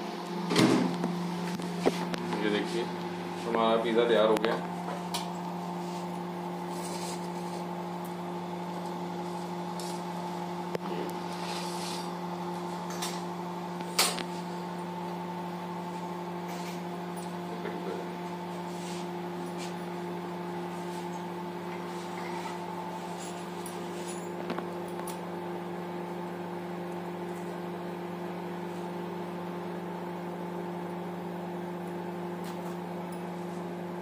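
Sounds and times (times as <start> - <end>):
steady appliance hum: 0.0 - 34.0.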